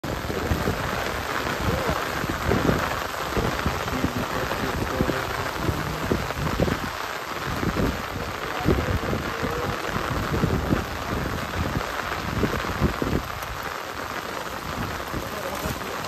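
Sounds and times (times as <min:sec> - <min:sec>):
rain falling on water: 0:00.0 - 0:16.0.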